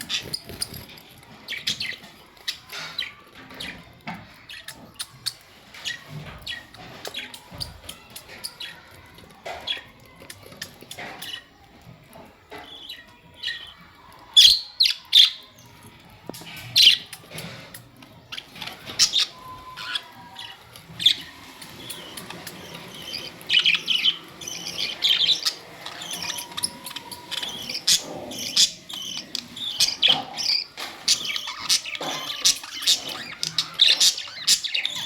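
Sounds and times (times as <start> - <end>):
budgerigars chirping and chattering: 0.0 - 35.0.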